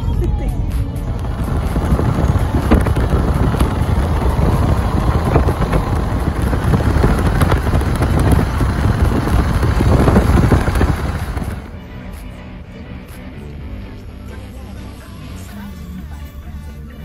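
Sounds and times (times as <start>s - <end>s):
car road and wind noise: 0.0s - 16.3s.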